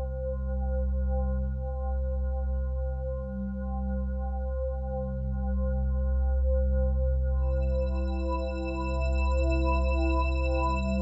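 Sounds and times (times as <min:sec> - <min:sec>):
ambient music with deep drone: 0:00.0 - 0:11.0.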